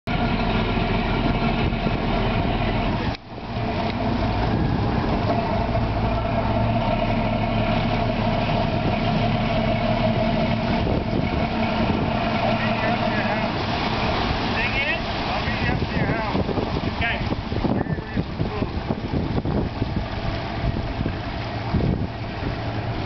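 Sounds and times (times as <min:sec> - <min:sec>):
boat diesel engine running: 0:00.1 - 0:23.0.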